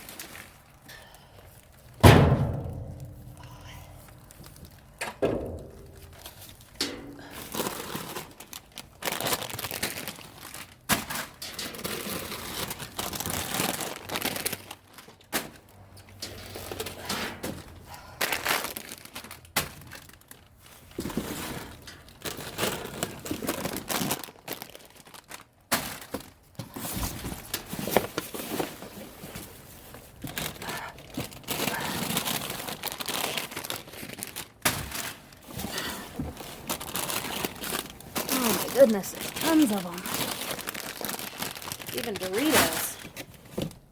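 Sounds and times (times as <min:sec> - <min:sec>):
plastic bags crinkling: 0:00.0 - 0:02.0, 0:02.9 - 0:17.0, 0:17.6 - 0:43.9.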